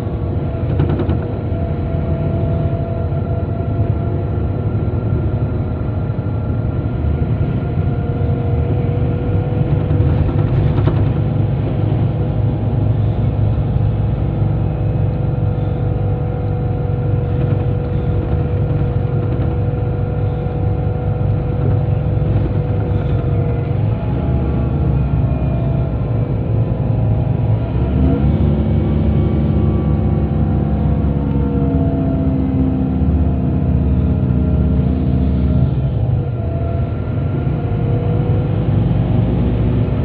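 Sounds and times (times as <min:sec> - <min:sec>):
diesel engine droning: 0:00.0 - 0:40.0
road rumble: 0:00.0 - 0:40.0
steady whine: 0:00.0 - 0:40.0.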